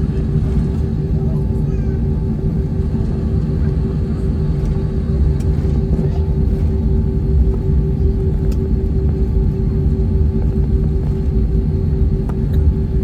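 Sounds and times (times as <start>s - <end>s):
airliner cabin rumble and hum: 0.0s - 13.0s.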